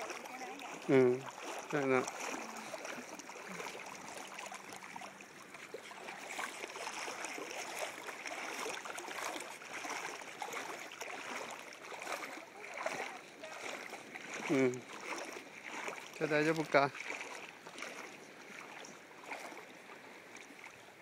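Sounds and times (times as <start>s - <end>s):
shallow seawater splashing: 0.0s - 21.0s.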